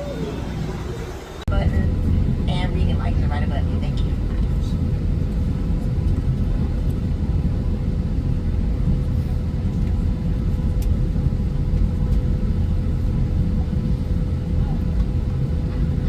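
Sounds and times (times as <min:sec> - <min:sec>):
airliner engine and airflow rumble: 0:00.0 - 0:16.0.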